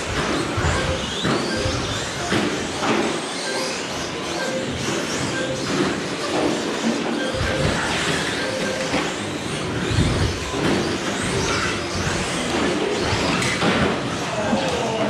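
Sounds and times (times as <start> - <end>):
rc truck motors whining: 0.0 - 15.0.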